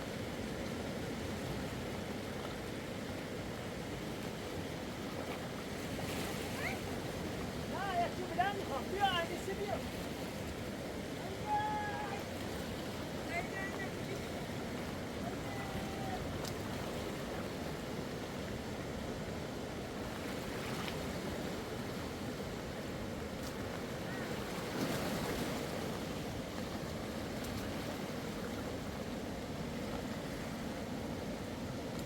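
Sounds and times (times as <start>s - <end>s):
water rushing: 0.1s - 32.0s.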